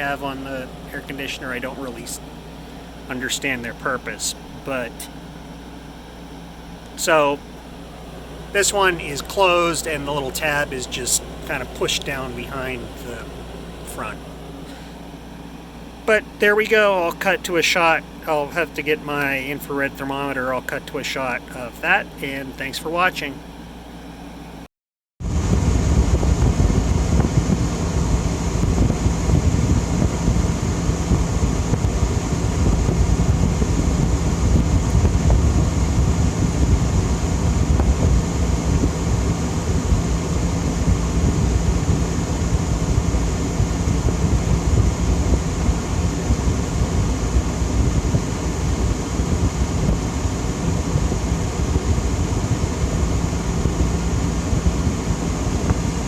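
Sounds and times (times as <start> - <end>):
air conditioner running: 0.0 - 56.0.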